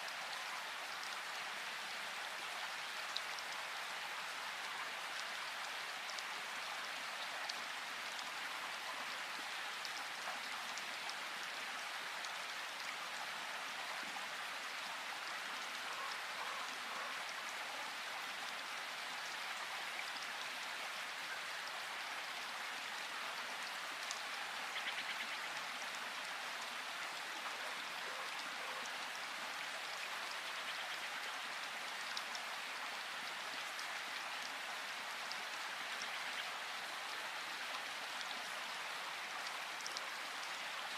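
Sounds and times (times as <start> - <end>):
steady rain patter in forest: 0.0 - 40.9.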